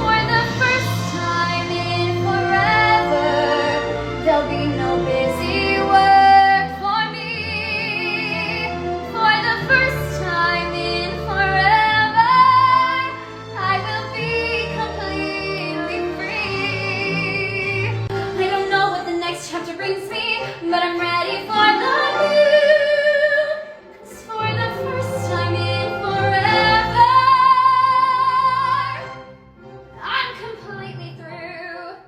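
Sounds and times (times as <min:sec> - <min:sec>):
woman singing operatically: 0:00.0 - 0:29.1, 0:30.0 - 0:32.0
instrumental backing music: 0:00.0 - 0:32.0.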